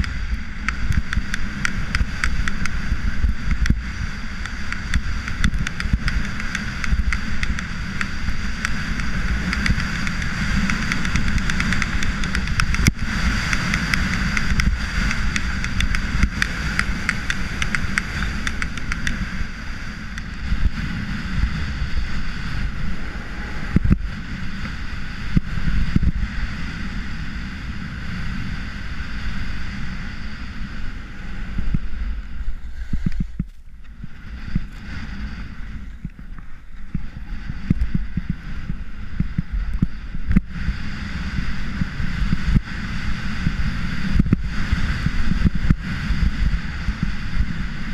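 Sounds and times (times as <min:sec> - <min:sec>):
skis scraping on snow: 0:00.0 - 0:47.9
wind rumble on microphone: 0:00.0 - 0:47.9.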